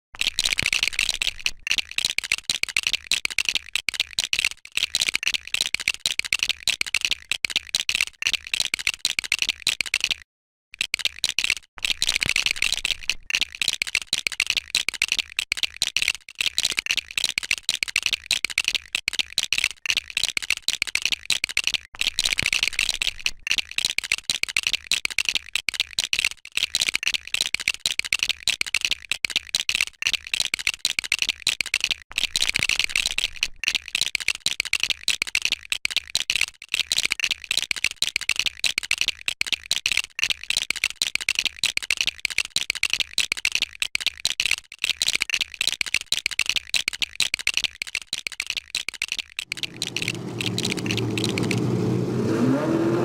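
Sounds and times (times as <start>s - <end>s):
plastic bricks clicking and rattling: 0.2s - 10.2s, 10.8s - 51.8s.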